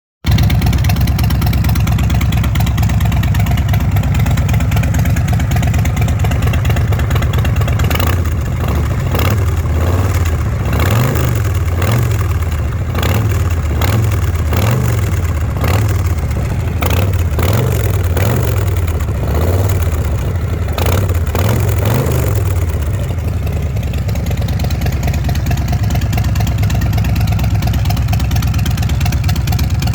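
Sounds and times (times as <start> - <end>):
engine idling and revving: 0.3 - 29.9.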